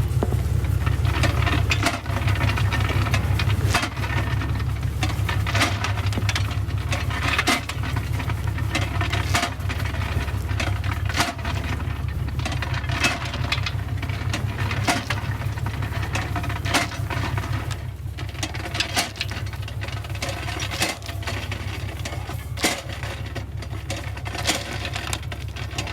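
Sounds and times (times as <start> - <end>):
sharp clicks and knocks: 0.0 - 25.9
truck engine running: 0.0 - 25.9.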